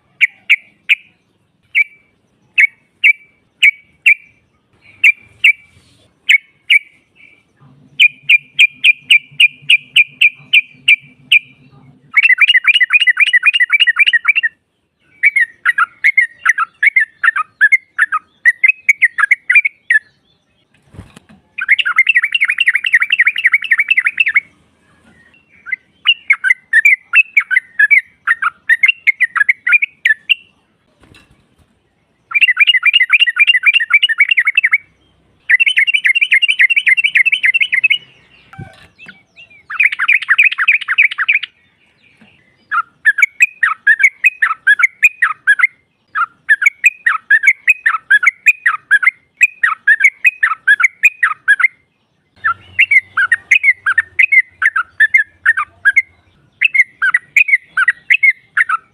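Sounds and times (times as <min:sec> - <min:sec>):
bird rapid chattering calls: 0:00.2 - 0:20.1, 0:20.8 - 0:24.5, 0:32.3 - 0:58.9.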